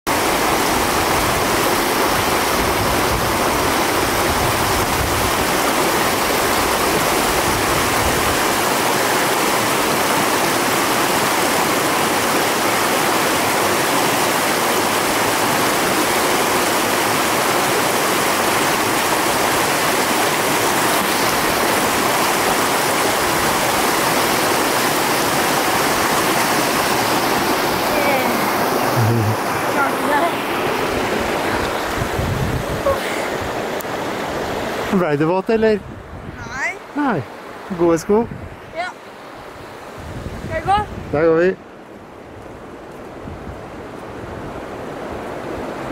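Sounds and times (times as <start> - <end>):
stream rushing over rocks: 0.1 - 45.9.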